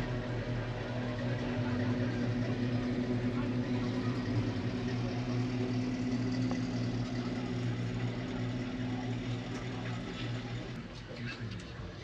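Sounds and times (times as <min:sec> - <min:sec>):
truck engine idling: 0:00.0 - 0:10.8.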